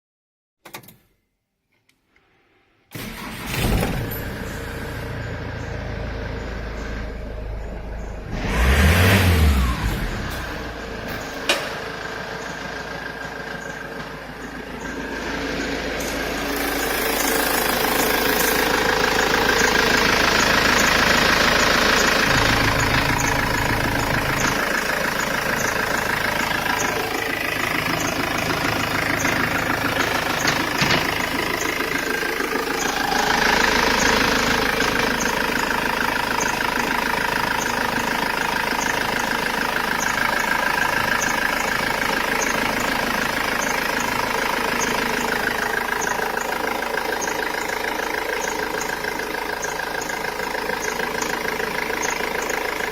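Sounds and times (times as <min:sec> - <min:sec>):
diesel engine running: 0:02.9 - 0:52.9.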